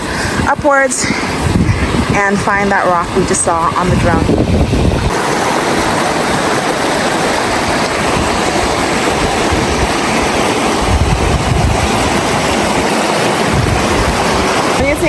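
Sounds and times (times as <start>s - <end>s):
low rumbles: 0.0s - 15.0s
river water rushing over rocks: 0.0s - 15.0s.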